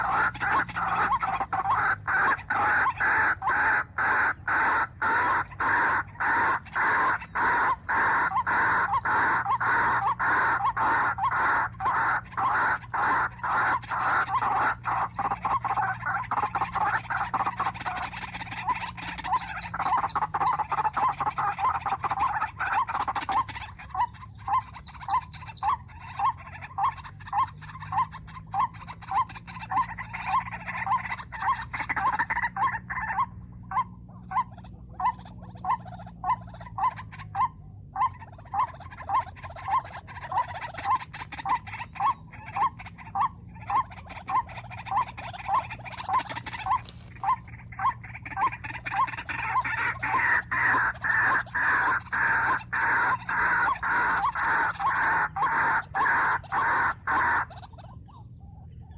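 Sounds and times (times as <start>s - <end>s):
bird croaking call: 0.0s - 58.9s.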